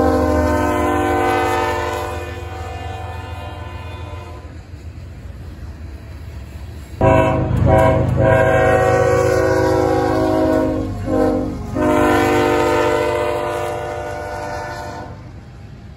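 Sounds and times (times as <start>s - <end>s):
locomotive air horn: 0.0s - 4.7s, 7.0s - 15.4s
train rumbling: 0.0s - 15.9s.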